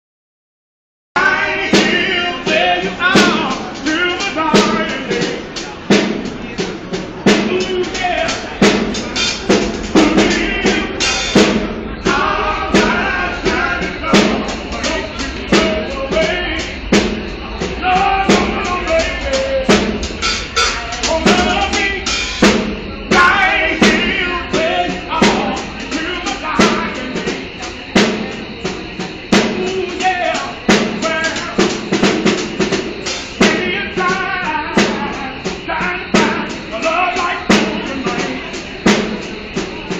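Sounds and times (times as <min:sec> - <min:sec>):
person singing blues: 0:01.2 - 0:05.8, 0:07.2 - 0:31.9, 0:33.3 - 0:38.8
snare drum and cymbal beat: 0:01.2 - 0:39.9.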